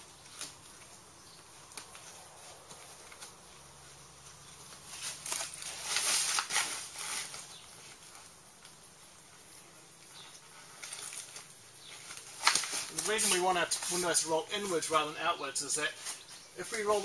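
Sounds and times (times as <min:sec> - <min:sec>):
canvas tent wall rustling: 0:00.0 - 0:08.4, 0:09.7 - 0:17.0.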